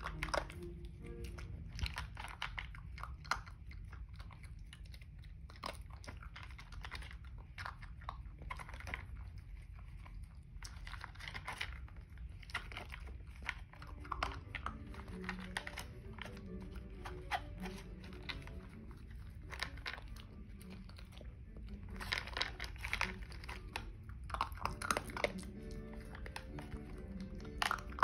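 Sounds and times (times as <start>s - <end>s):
puppy crunching food: 0.0s - 28.0s.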